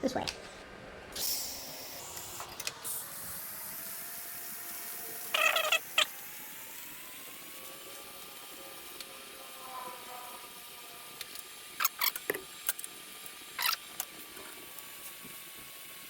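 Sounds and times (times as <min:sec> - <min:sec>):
welding arc hissing: 0:01.1 - 0:16.0.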